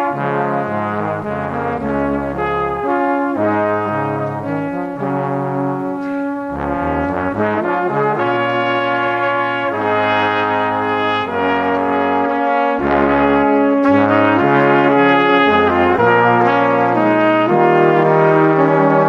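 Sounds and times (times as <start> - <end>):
brass-like chords: 0.0 - 19.0
stepping bass line: 0.4 - 19.0.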